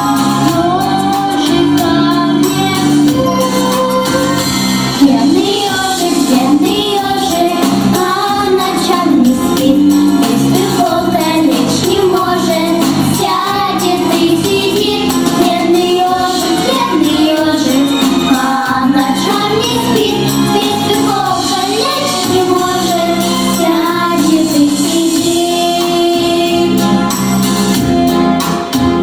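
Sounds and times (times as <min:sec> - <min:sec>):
girl singing into a microphone: 0:00.0 - 0:26.9
instrumental accompaniment with beat: 0:00.0 - 0:29.0.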